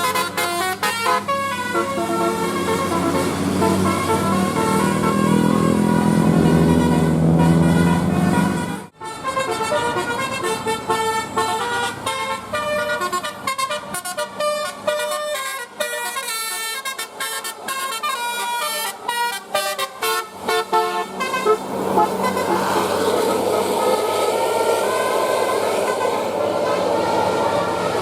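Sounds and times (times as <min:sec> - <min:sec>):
bus engine running: 0:00.0 - 0:28.0
multi-tone air horn tune: 0:00.0 - 0:28.0.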